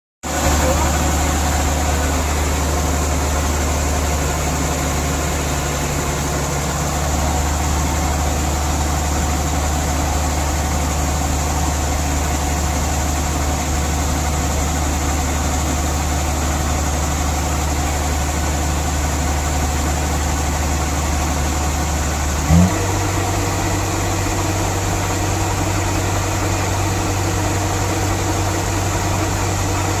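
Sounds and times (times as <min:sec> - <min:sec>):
harvester engine humming: 0:00.3 - 0:30.0.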